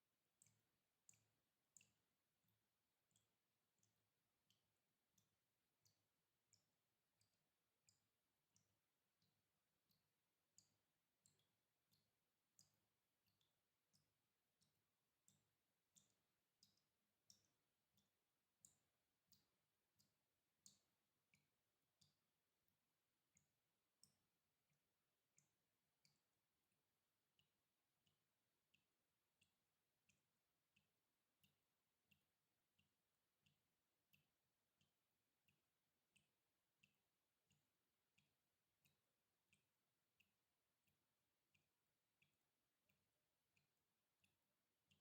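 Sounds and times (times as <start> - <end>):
water dripping: 0.0 - 24.4, 25.3 - 41.0.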